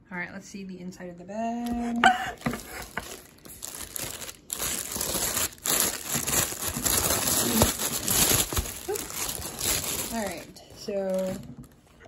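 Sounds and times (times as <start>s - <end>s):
plastic bag crinkling: 2.2s - 12.0s.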